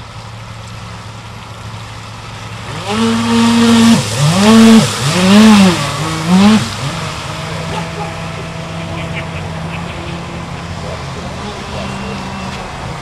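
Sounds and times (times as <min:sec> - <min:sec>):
electric boat motor running hard: 0:01.4 - 0:13.0.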